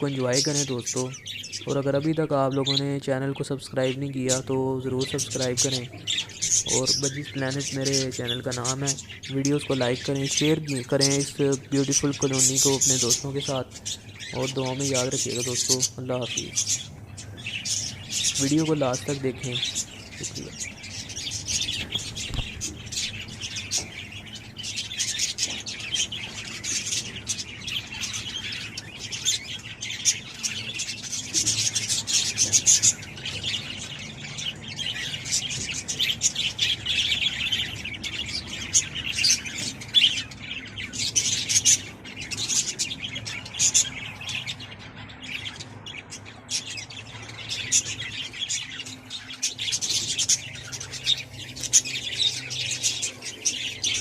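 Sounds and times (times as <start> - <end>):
birds chirping and chattering: 0.0 - 54.0.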